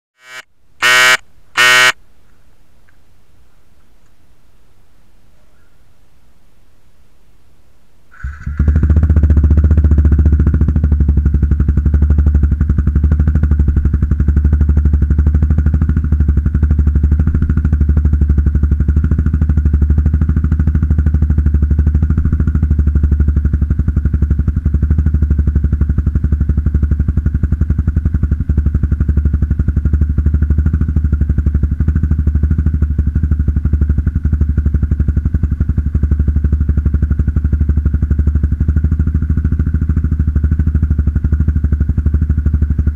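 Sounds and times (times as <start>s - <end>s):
motorcycle engine starting and idling: 8.1s - 42.9s.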